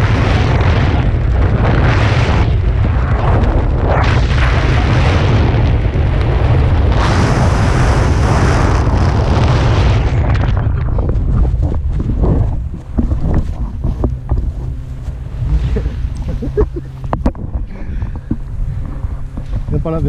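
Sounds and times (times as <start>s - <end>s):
wind buffeting on microphone: 0.0s - 20.0s.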